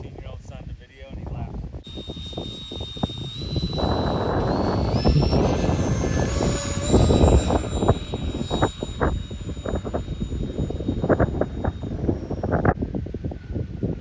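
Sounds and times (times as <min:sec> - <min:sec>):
wind on microphone: 0:00.0 - 0:14.0
electric ducted fans whining: 0:01.9 - 0:14.0.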